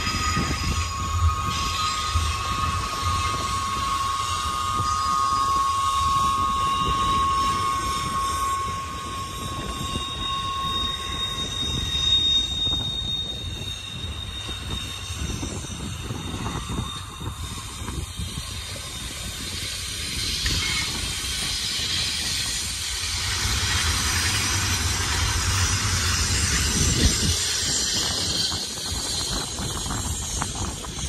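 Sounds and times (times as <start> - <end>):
high-pitched wheel squeal: 0.0 - 31.0
train wheels rumbling and clattering: 0.0 - 31.0.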